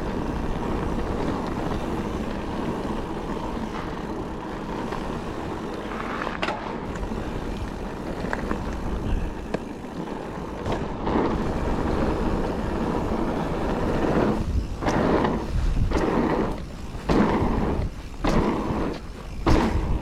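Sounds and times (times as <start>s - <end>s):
bike knocking and rattling: 0.0s - 20.0s
bike tyre roar on dirt: 0.0s - 20.0s
wind rumble on microphone: 0.0s - 20.0s.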